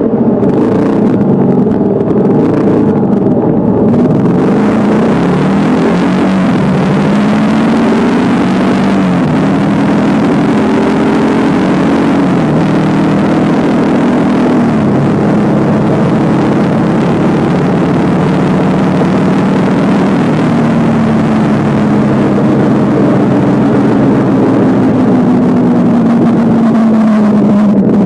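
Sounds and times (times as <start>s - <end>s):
motorcycle engine running: 0.0s - 28.0s
wind noise: 0.0s - 28.0s.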